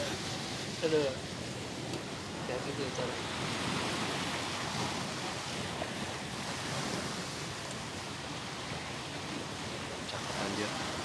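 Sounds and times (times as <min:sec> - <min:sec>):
sea water lapping at shore: 0:00.0 - 0:11.0
wind on microphone: 0:00.0 - 0:11.0.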